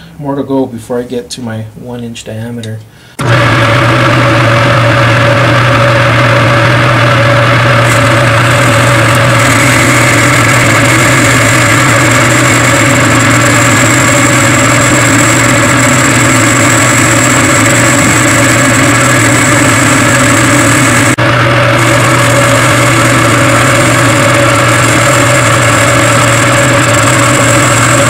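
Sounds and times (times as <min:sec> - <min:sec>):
metal lathe humming: 0:03.2 - 0:28.0.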